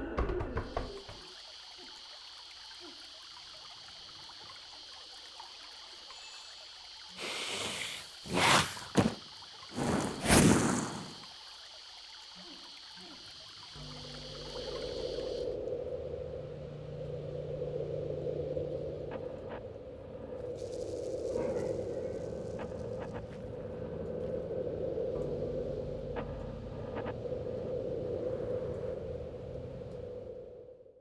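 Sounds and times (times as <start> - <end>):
steady high-pitched hiss: 1.4 - 30.7.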